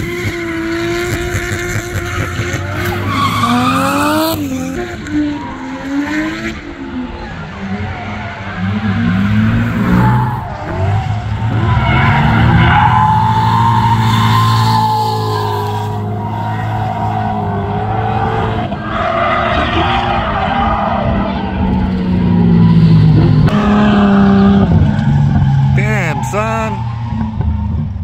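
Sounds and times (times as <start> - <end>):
car engine at high revs: 0.0 - 28.0.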